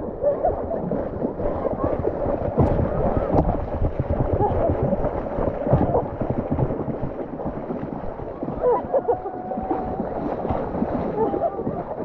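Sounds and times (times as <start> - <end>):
water sloshing around wading legs: 0.0 - 12.0
wind buffeting microphone: 0.0 - 12.0.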